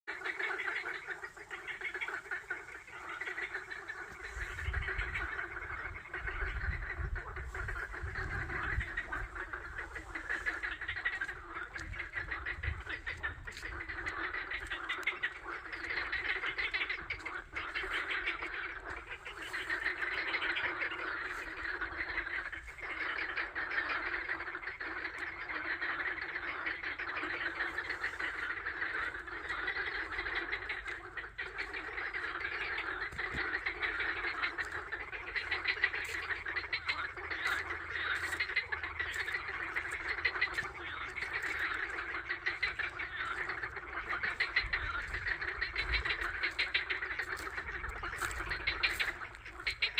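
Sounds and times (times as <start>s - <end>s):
ducks quacking in chorus: 0.1s - 49.9s.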